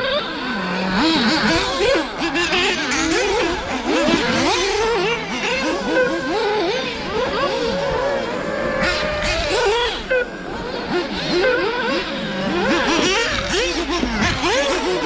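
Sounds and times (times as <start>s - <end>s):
rc car motors revving: 0.0s - 15.0s.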